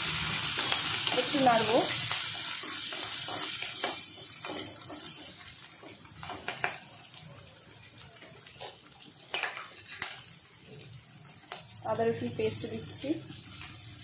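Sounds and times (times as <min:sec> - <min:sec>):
spices sizzling in oil: 0:00.0 - 0:14.0.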